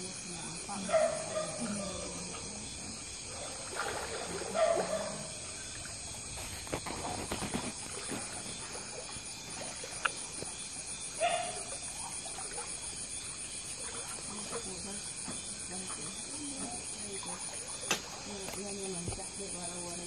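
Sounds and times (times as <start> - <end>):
water sloshing from wading: 0.0 - 20.0.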